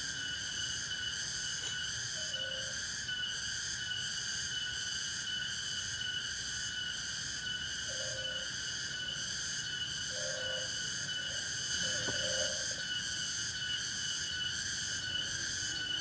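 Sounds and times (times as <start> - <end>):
forest insects chorus: 0.0 - 16.0.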